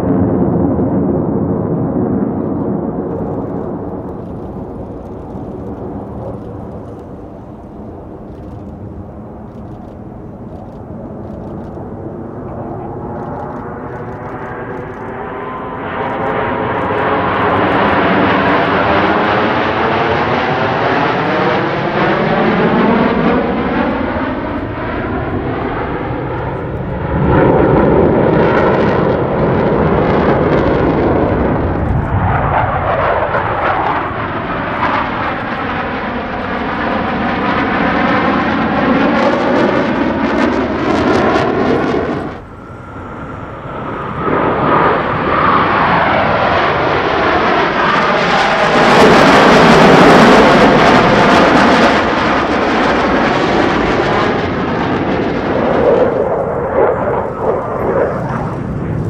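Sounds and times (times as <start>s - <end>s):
jet engines flying past: 0.0s - 59.0s.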